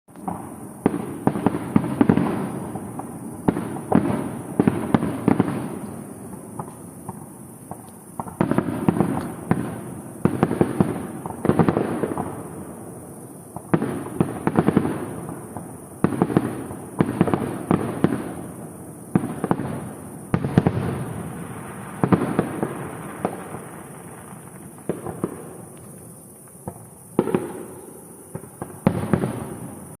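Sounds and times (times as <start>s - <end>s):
fireworks bangs and crackles: 0.1s - 30.0s.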